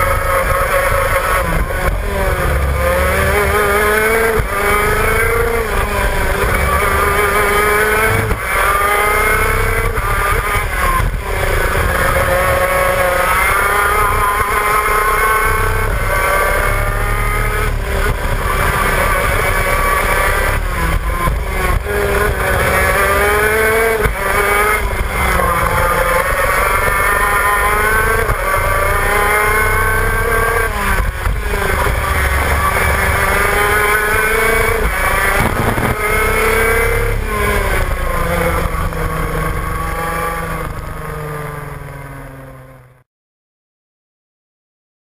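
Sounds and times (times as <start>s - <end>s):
kart engine revving: 0.0s - 43.0s.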